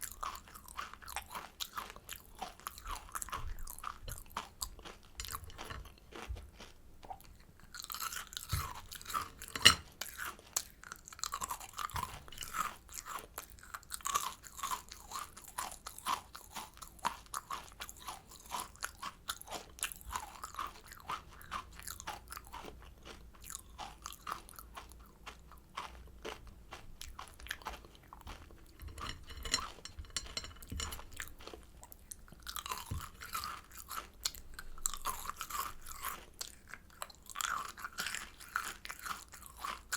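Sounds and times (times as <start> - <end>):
candy crunching: 0.0 - 39.9
soft chewing: 0.0 - 39.9.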